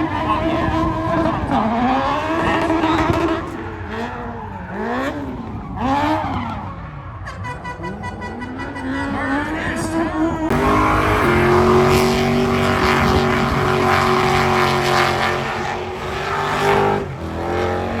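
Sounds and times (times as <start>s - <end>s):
car engine revving: 0.0s - 6.7s, 8.6s - 18.0s.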